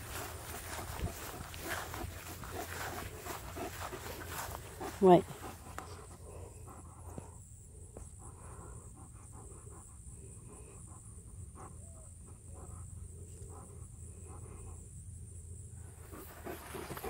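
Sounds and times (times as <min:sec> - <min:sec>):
dog panting: 0:00.0 - 0:15.0, 0:15.9 - 0:17.0
insects droning: 0:00.0 - 0:17.0.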